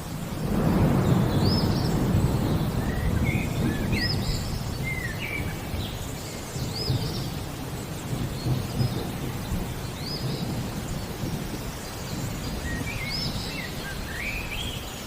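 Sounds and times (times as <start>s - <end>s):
low rumble of thunder: 0.0s - 15.0s
songbirds chirping: 0.0s - 15.0s.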